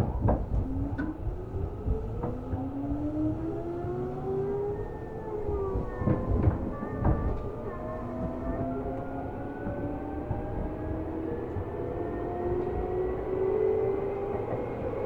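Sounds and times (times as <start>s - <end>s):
train running gear rumble: 0.0s - 15.0s.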